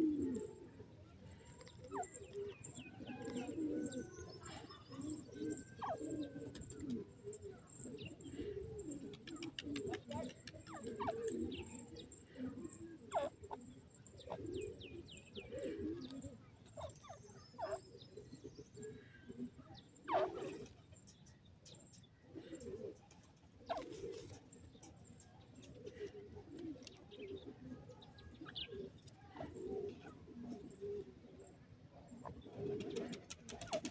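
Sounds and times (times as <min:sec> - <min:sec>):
soft low bird calls: 0:00.0 - 0:33.9.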